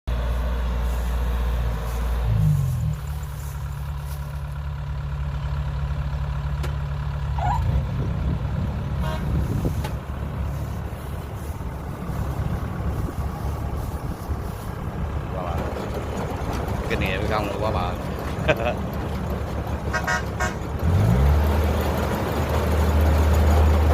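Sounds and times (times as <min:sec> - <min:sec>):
combine harvester diesel engine: 0:00.0 - 0:23.9.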